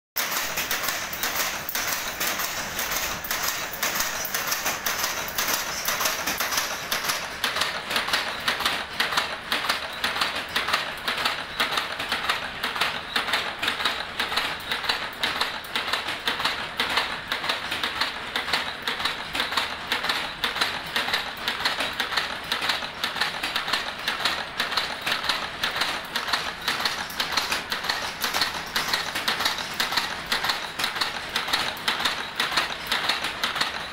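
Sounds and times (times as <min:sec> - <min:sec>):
wire-forming machine clattering: 0:00.2 - 0:33.9.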